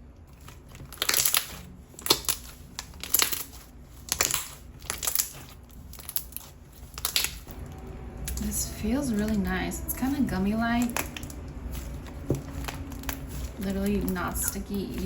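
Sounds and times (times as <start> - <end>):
slime squishing in hands: 0.1 - 8.5, 9.2 - 15.0.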